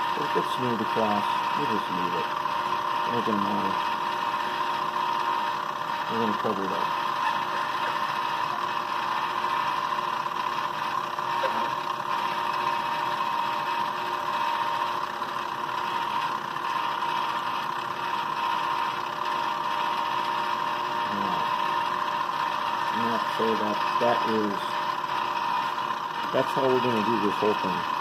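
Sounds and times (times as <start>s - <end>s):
milling machine whining: 0.0s - 28.0s.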